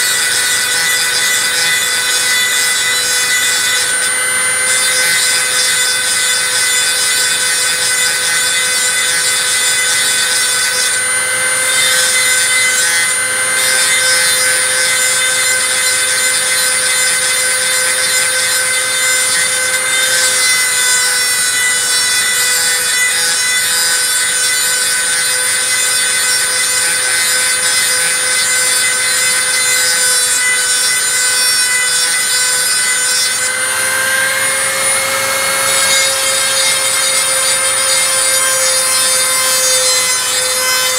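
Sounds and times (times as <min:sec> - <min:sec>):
rotary tool grinding metal: 0:00.0 - 0:40.9.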